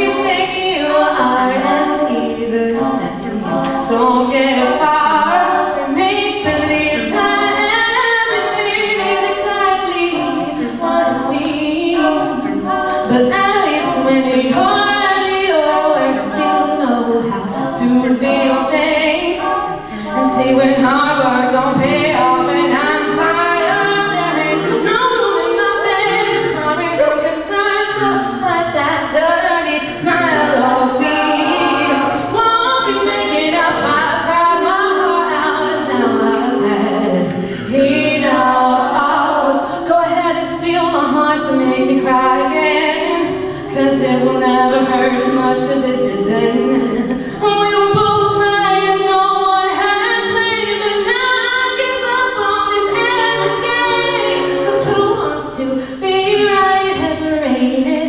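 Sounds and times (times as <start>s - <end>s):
backing vocals: 0.0s - 58.0s
female lead vocal: 0.0s - 58.0s.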